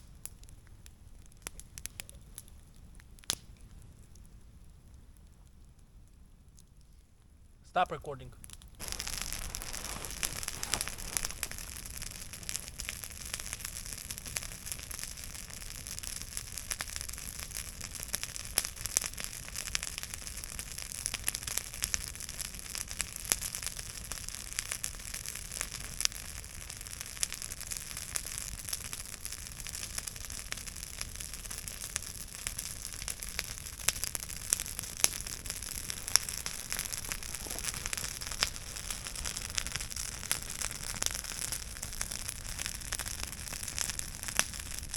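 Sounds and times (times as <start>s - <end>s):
campfire crackling and popping: 0.0s - 44.9s
fire hissing: 8.5s - 44.9s.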